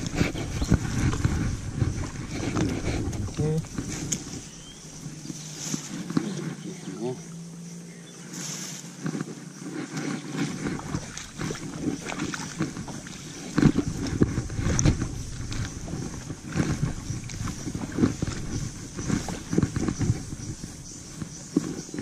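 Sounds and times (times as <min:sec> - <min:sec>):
footsteps splashing through stream: 0:00.0 - 0:07.0, 0:08.3 - 0:22.0
low rumble on microphone: 0:00.0 - 0:22.0.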